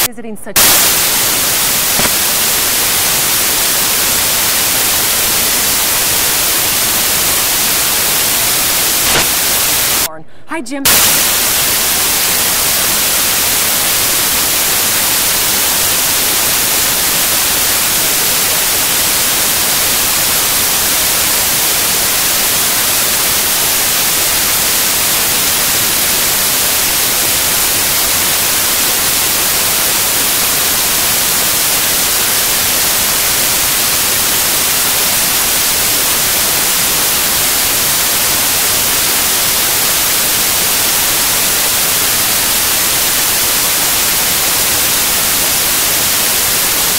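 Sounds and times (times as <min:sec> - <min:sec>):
white noise static hiss: 0:00.0 - 0:46.9.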